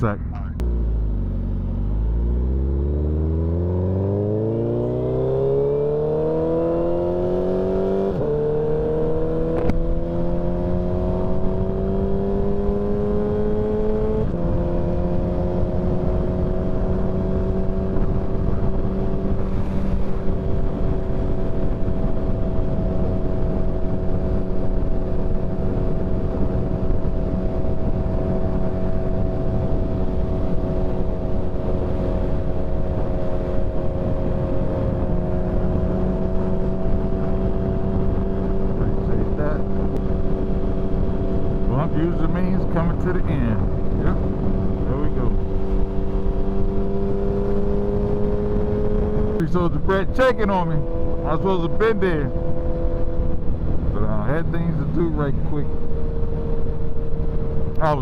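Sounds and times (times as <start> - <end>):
motorcycle engine accelerating: 0.0 - 58.0
wind rush: 5.4 - 58.0.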